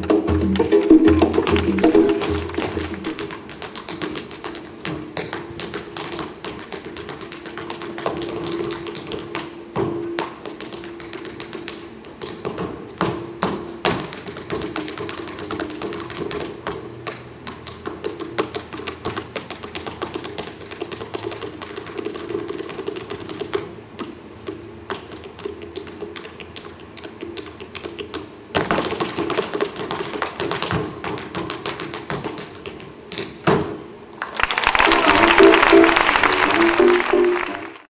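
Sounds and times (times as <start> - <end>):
tap shoes on stage floor: 0.0 - 37.9.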